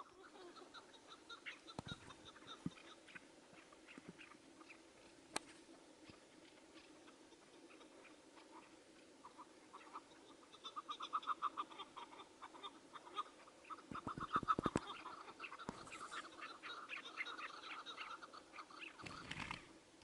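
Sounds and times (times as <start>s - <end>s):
partridge calling: 0.0s - 5.1s, 6.8s - 19.6s.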